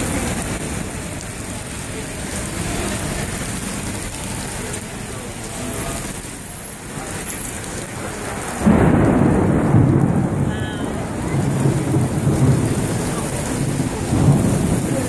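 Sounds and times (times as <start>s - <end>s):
thunder rumbling: 0.0s - 5.1s, 6.0s - 15.0s
rain falling on street: 0.0s - 15.0s.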